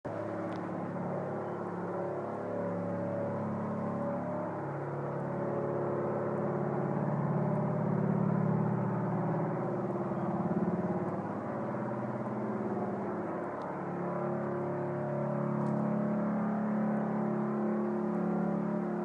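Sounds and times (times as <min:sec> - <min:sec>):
low droning hum: 0:00.1 - 0:19.0.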